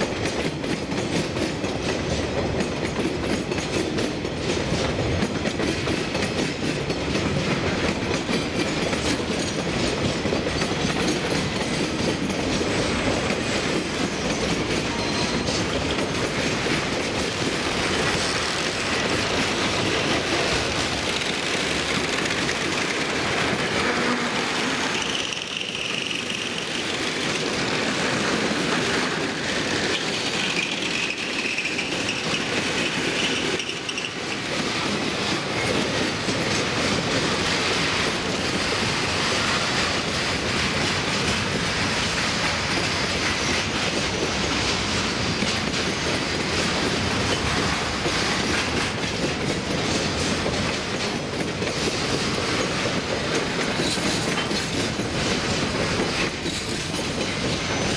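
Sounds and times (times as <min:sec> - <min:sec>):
clickety-clack over rail joints: 0:00.0 - 0:57.9
steel wheels rumbling on rail: 0:00.0 - 0:57.9.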